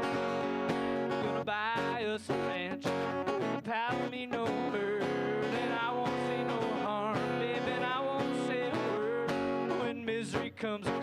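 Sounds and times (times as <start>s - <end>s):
man singing: 0.0s - 11.0s
strummed acoustic guitar: 0.0s - 11.0s.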